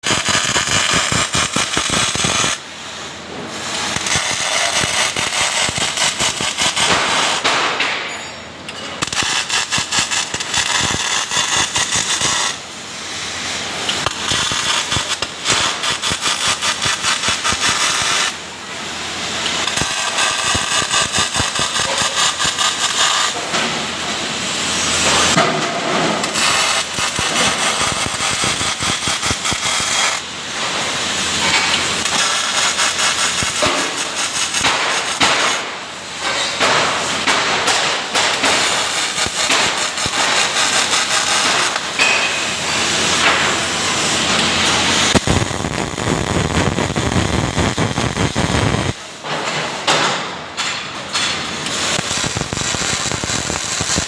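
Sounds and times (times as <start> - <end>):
welding arc crackling: 0.0 - 7.8, 9.0 - 35.9, 36.6 - 49.3, 50.6 - 54.0.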